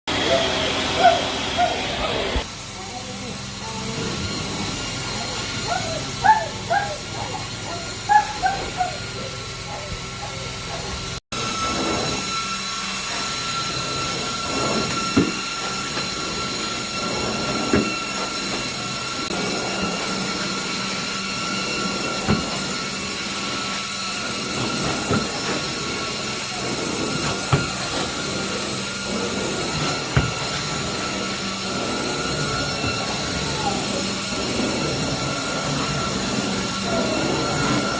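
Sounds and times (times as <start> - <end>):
carpet cleaning machine running: 0.1 - 37.9.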